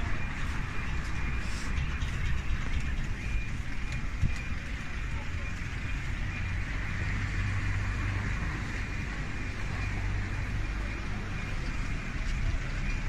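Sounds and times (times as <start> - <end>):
traffic hiss: 0.0 - 12.9
vehicle engine running: 0.0 - 13.0.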